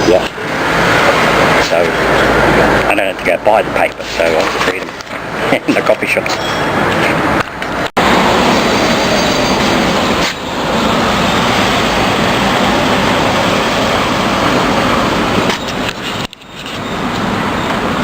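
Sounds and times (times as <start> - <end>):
busy street traffic: 0.0 - 18.0.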